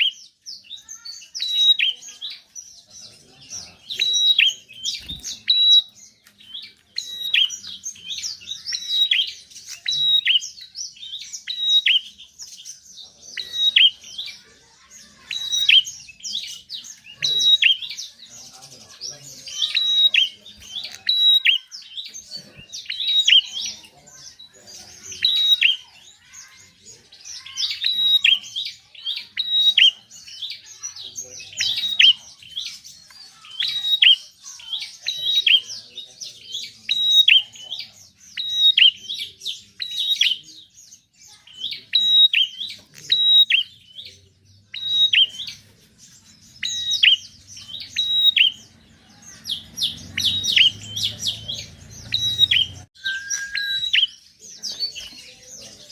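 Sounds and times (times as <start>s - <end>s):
bird chirping: 0.0s - 55.9s.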